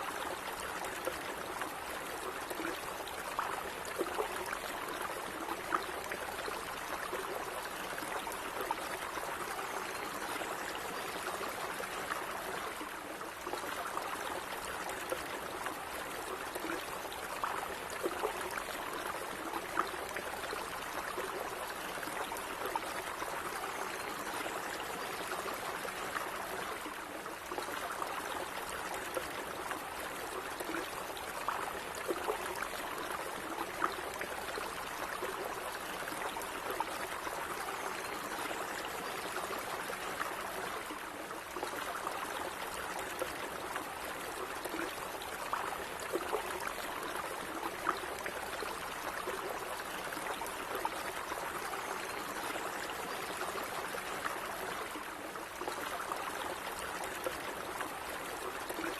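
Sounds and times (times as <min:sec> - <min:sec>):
stream of water trickling: 0:00.0 - 0:58.9.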